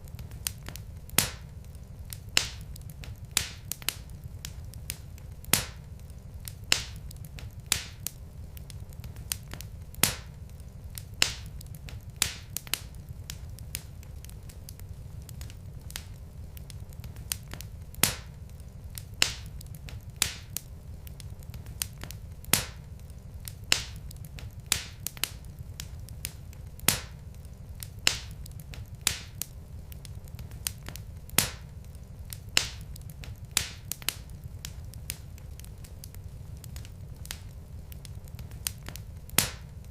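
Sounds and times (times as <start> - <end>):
low rumble of flames: 0.0 - 39.9
logs popping and snapping: 0.2 - 39.8.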